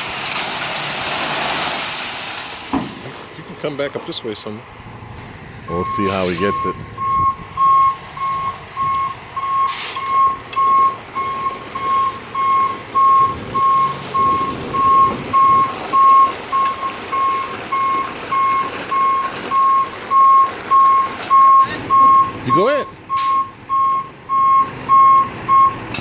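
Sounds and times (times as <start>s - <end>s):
truck engine running: 0.0s - 26.0s
truck reversing alarm beeping: 4.9s - 26.0s.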